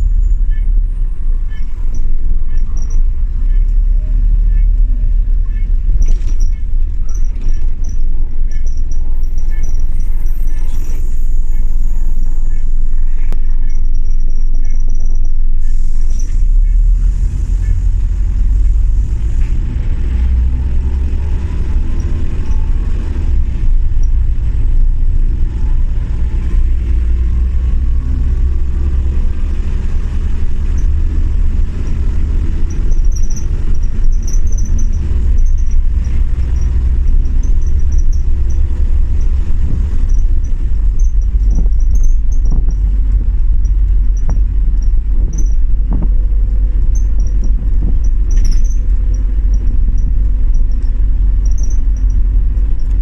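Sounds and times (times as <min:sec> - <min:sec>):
bus engine and tyre rumble: 0:00.0 - 0:53.0.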